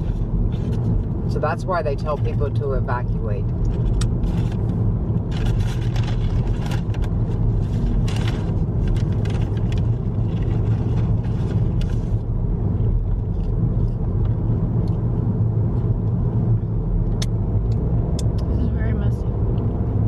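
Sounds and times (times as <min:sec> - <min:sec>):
car driving road noise: 0:00.0 - 0:20.0.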